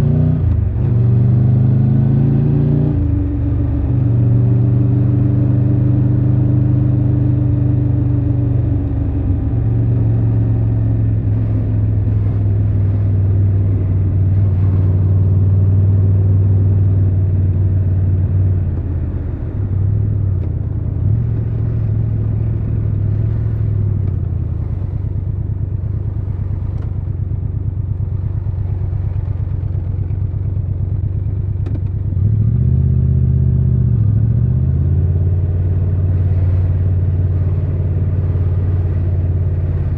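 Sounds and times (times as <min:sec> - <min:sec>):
motorcycle engine running: 0:03.0 - 0:39.9.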